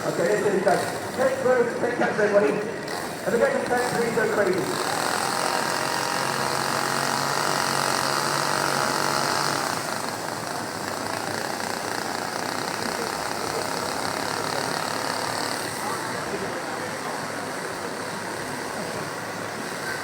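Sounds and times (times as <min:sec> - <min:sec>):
chainsaw engine running: 0:00.0 - 0:20.0.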